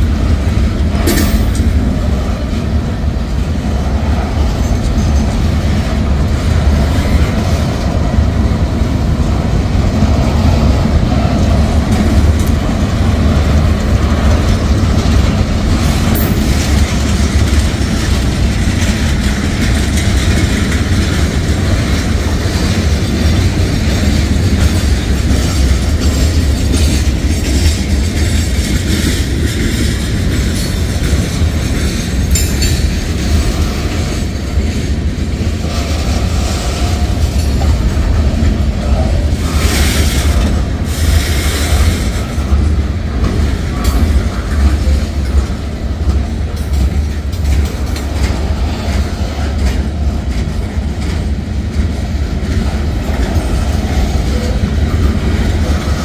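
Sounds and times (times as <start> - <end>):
freight train wheels rumbling on rail: 0.0 - 56.0
wheels clicking over rail joints: 0.0 - 56.0.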